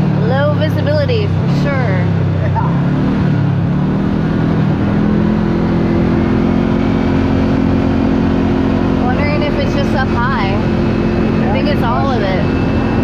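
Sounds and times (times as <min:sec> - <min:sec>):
utv engine running: 0:00.0 - 0:13.0.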